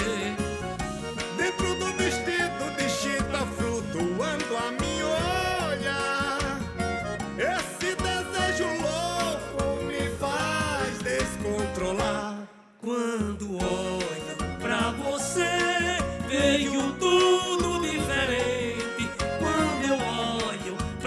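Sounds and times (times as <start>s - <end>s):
live band playing folk music: 0.0s - 12.3s, 13.6s - 21.0s.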